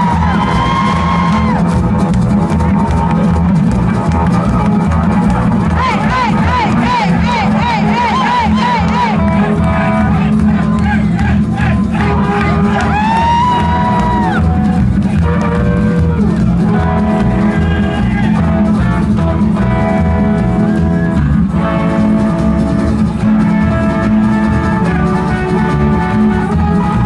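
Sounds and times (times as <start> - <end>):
rockabilly band playing live: 0.0 - 27.0.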